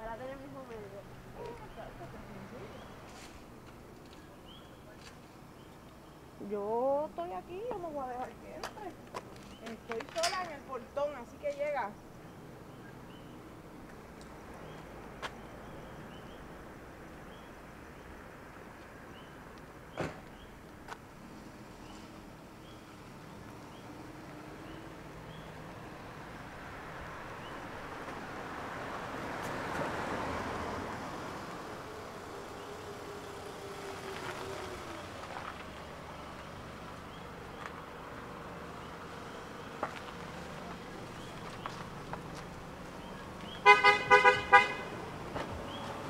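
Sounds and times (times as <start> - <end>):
car engine and tyre noise: 0.0 - 46.0.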